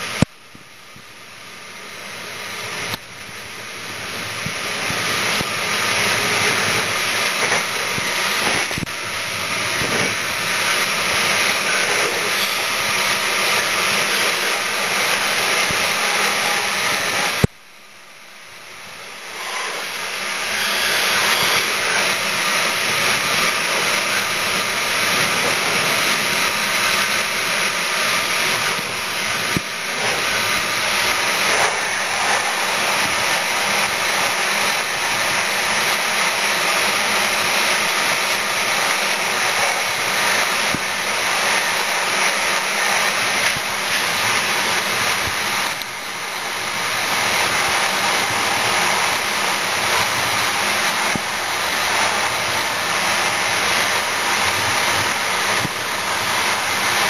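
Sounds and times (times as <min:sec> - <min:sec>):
train rushing at speed: 0:00.0 - 0:17.5, 0:18.4 - 0:57.0.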